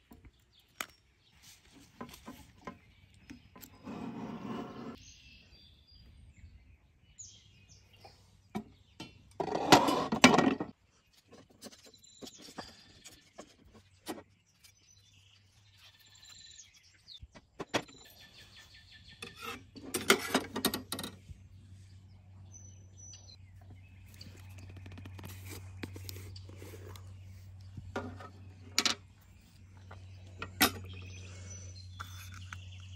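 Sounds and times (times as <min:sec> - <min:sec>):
birds chirping: 0:00.0 - 0:09.8, 0:10.6 - 0:32.9.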